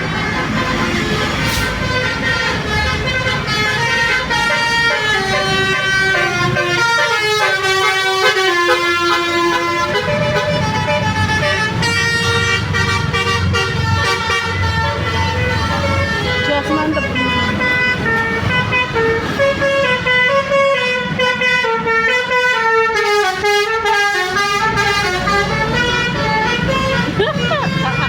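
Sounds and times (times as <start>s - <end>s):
bus engines running: 0.0s - 28.0s
bus horns playing melodies: 0.0s - 28.0s.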